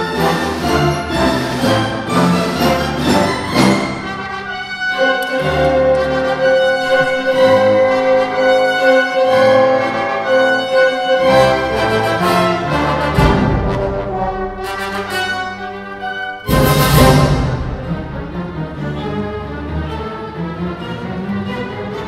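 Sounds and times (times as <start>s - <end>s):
orchestra strings and brass: 0.0s - 22.0s.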